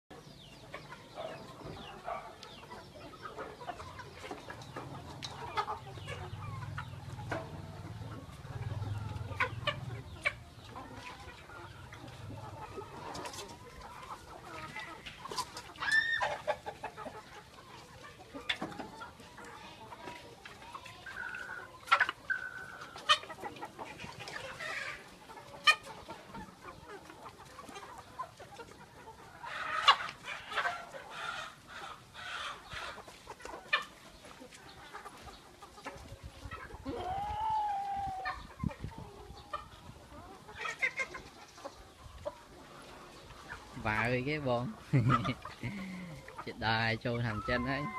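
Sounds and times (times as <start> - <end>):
chickens clucking: 0.1 - 47.9.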